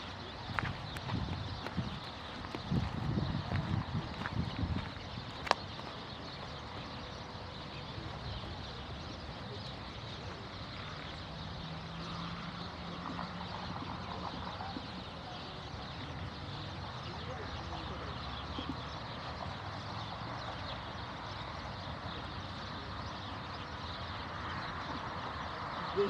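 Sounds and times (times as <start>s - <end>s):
steady wind: 0.0s - 26.0s.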